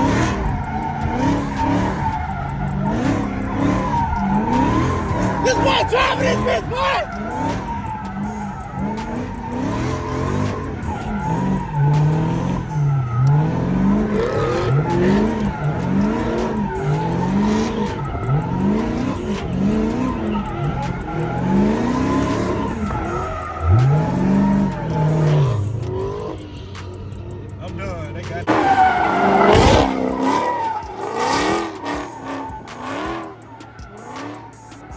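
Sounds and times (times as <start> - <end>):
car engine revving: 0.0 - 34.9
tires squealing: 0.0 - 34.9.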